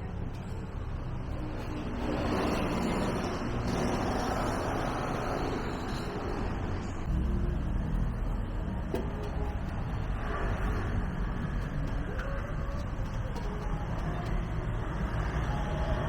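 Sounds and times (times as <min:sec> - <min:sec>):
rumble of passing road vehicles: 0:00.0 - 0:16.0.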